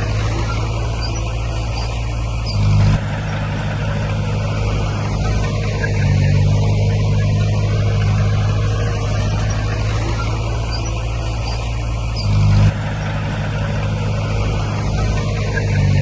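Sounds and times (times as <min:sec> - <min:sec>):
diesel earthmoving machinery drone: 0:00.0 - 0:16.0.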